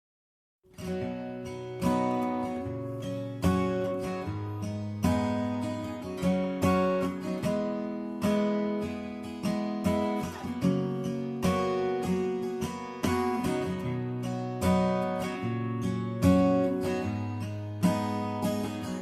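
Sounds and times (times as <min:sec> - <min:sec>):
acoustic guitar strumming chords: 0:00.7 - 0:19.0.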